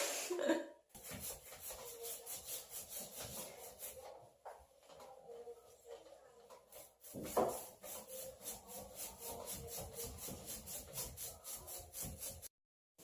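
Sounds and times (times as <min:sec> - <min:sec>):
paint brush rubbing on wall: 0:00.9 - 0:04.4, 0:05.5 - 0:12.5.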